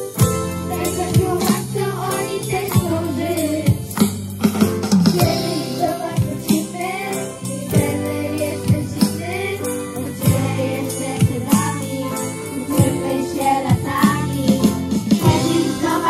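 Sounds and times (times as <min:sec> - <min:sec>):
children singing pop song: 0:00.0 - 0:16.0
live band playing: 0:00.0 - 0:16.0.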